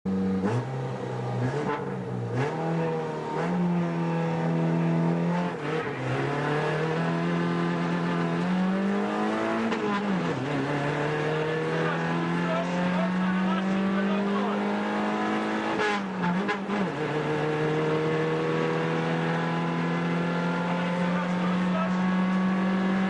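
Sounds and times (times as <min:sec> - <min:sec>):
car engine at speed: 0:00.1 - 0:23.0.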